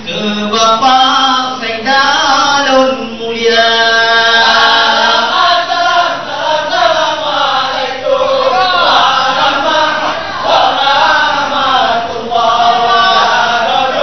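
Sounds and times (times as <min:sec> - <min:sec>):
men chanting a song: 0:00.1 - 0:14.0.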